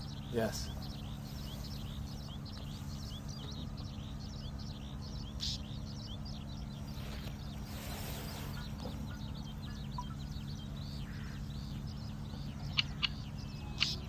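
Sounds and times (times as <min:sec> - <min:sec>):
small birds chirping: 0:00.0 - 0:14.0
steady low rumble: 0:00.0 - 0:14.0.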